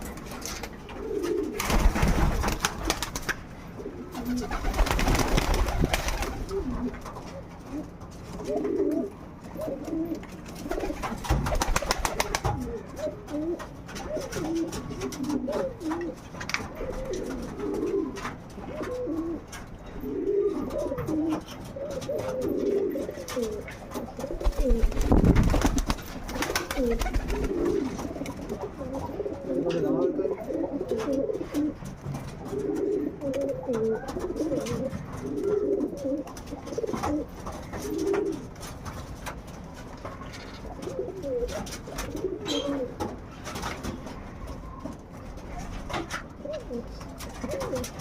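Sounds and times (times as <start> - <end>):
pigeons cooing: 0.0 - 38.6, 40.2 - 48.0.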